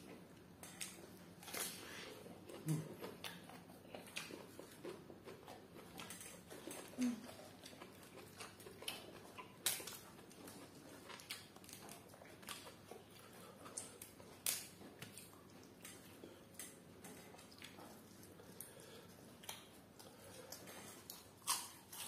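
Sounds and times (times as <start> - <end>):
chewing and lip smacks: 0.1 - 22.0.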